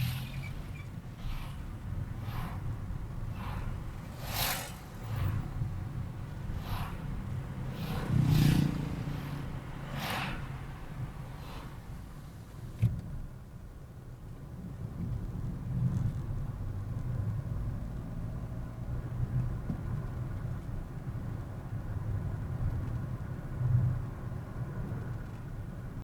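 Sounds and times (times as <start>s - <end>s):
car engine hum and road noise: 0.0s - 26.0s.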